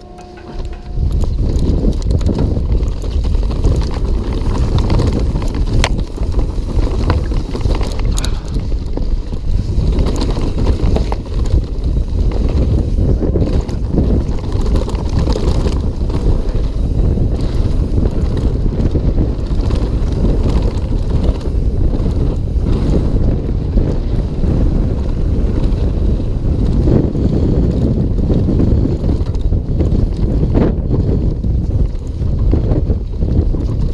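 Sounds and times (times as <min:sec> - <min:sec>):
bike tyres rumbling on dirt: 0:00.0 - 0:33.9
wind buffeting microphone: 0:00.0 - 0:33.9.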